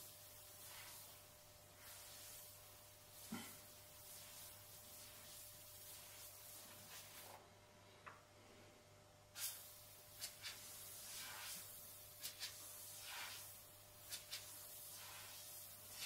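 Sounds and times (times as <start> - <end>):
airbrush hissing in spurts: 0.0 - 7.4, 9.3 - 16.0
faint steady hum: 0.0 - 16.0.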